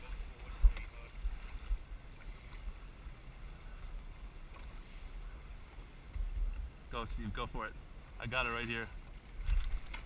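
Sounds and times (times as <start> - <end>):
faint hiss of wind and water: 0.0 - 10.0
wind rumbling on microphone: 0.0 - 10.0.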